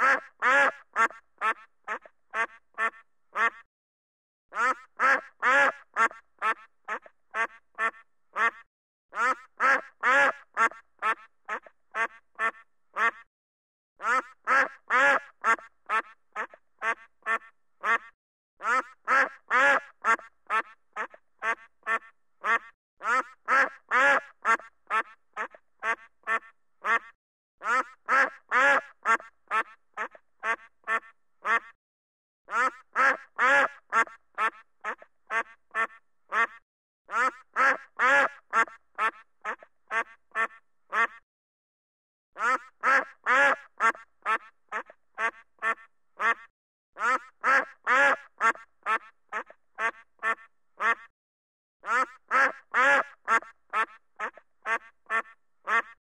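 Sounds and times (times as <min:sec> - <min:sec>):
duck quacking: 0:00.0 - 0:03.7, 0:04.5 - 0:13.3, 0:14.0 - 0:31.8, 0:32.5 - 0:41.2, 0:42.4 - 0:51.1, 0:51.8 - 0:56.0.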